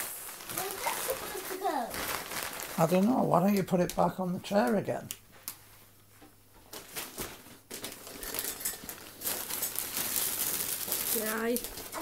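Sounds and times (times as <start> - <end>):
wrapping paper crinkling: 0.0 - 4.8, 6.7 - 12.0.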